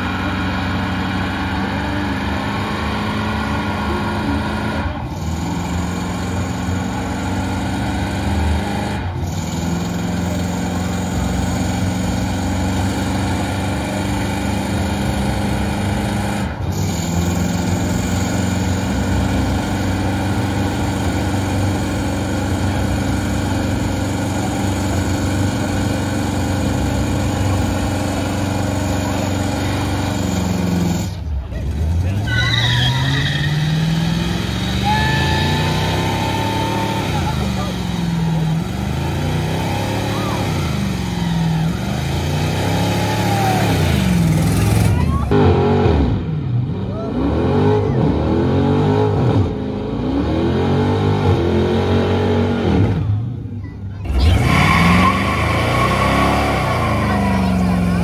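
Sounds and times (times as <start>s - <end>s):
truck engine revving high: 0.0s - 58.0s.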